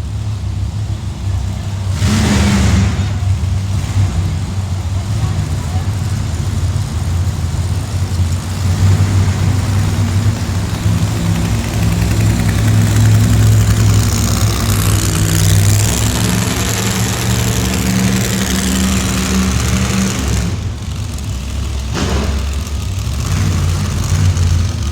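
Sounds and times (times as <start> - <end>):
truck engine idling and revving: 0.0 - 24.9.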